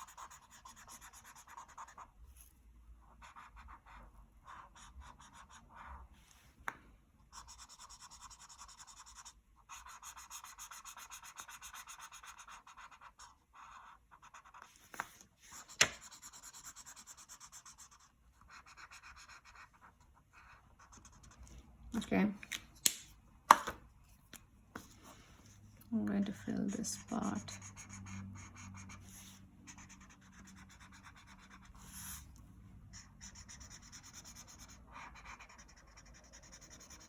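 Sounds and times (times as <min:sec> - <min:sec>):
scratchy colouring on paper: 0:00.0 - 0:06.4, 0:07.3 - 0:21.5, 0:26.3 - 0:37.0.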